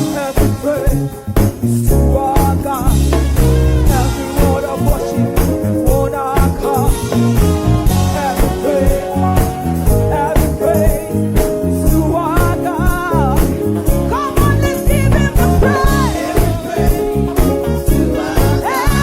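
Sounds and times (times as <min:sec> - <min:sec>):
lead vocal singing: 0:00.0 - 0:19.0
live band playing praise song: 0:00.0 - 0:19.0.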